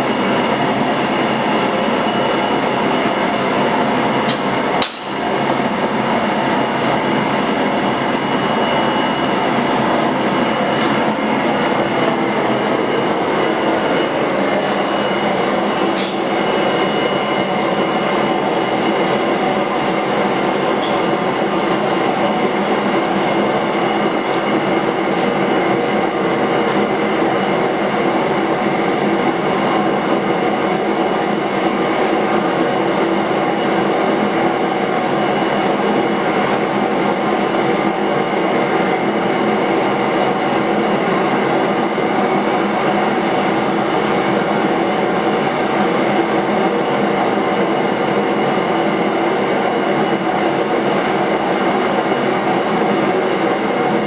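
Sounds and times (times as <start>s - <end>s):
steady mechanical noise: 0.0s - 54.0s.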